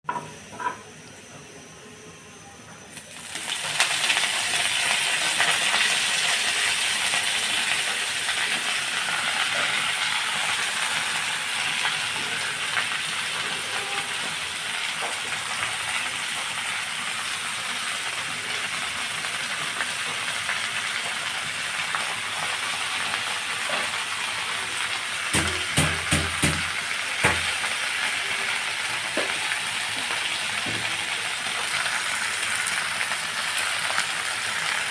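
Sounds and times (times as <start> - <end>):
food sizzling in hot oil: 2.9 - 34.9.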